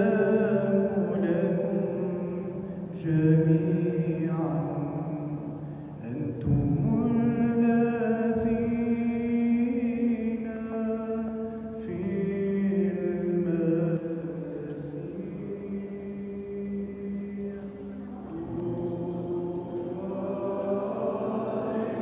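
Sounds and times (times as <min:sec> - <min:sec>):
man chanting: 0:00.0 - 0:22.0.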